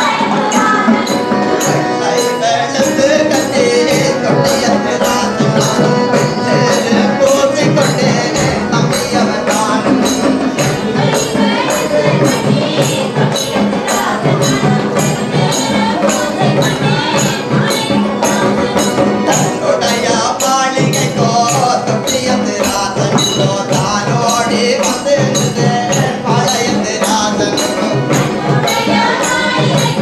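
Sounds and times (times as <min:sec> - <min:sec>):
percussion beat: 0:00.0 - 0:30.0
person singing: 0:00.0 - 0:30.0.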